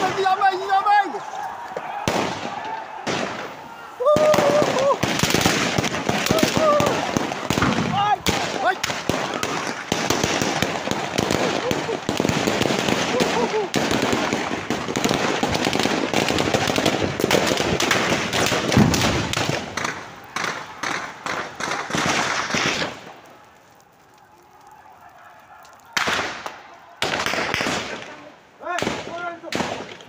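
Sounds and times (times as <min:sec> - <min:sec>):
vehicle fire crackling and popping: 0:00.0 - 0:30.0.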